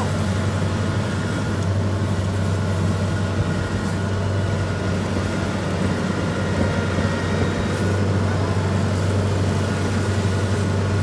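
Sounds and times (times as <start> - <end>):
combine harvester diesel engine: 0.0 - 11.0.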